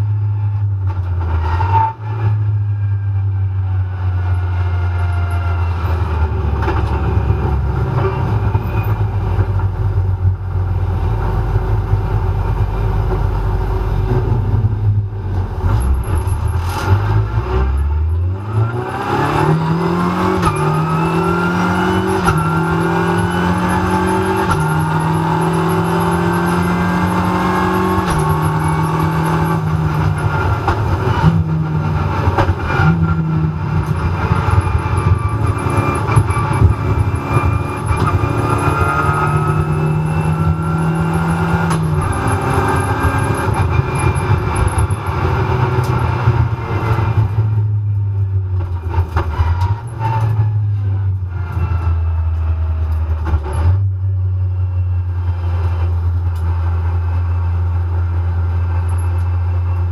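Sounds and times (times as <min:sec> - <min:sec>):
race car engine accelerating: 0:00.0 - 0:54.2.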